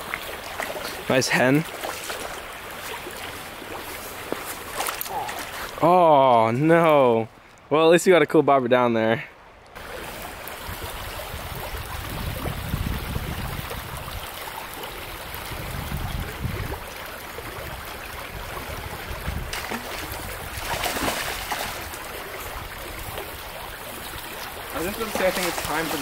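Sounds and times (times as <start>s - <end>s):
creek water rushing over rocks: 0.0s - 7.9s, 9.5s - 26.0s.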